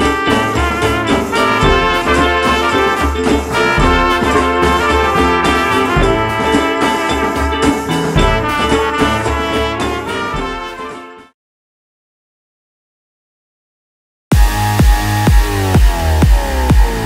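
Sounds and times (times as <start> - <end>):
brass music over pulsing beat: 0.0 - 11.3, 14.3 - 17.0.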